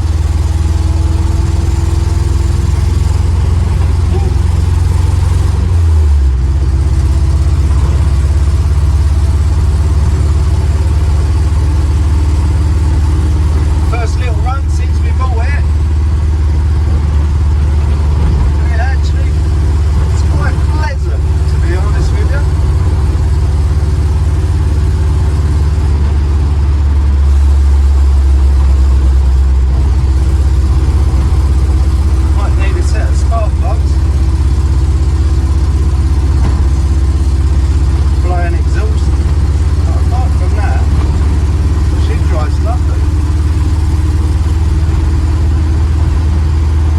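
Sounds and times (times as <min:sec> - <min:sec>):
vehicle engine and road drone: 0:00.0 - 0:46.9.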